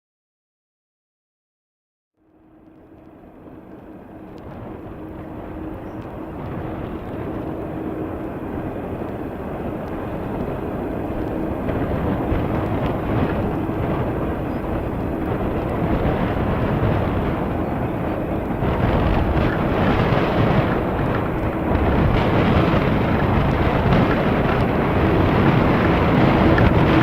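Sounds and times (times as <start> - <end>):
jet engine rumble: 2.2 - 27.0
steady hum: 2.2 - 27.0.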